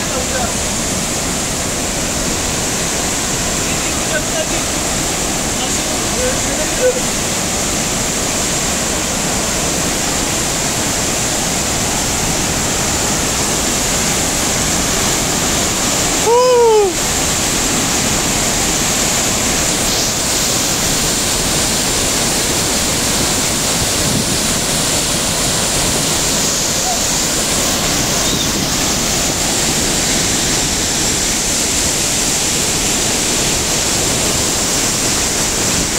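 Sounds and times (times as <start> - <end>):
waterfall rushing: 0.0 - 35.9
whitewater stream running: 0.0 - 35.9.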